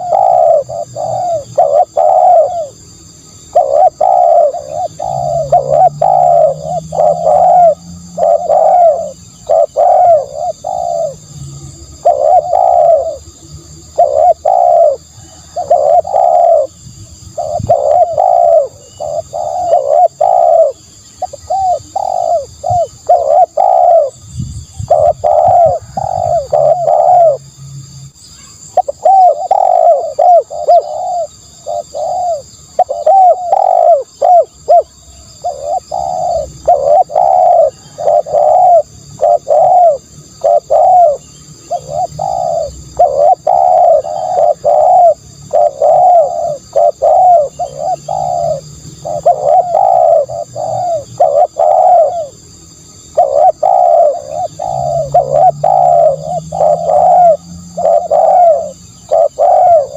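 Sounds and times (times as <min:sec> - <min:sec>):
dove cooing: 0:00.0 - 0:27.5, 0:28.4 - 0:59.9.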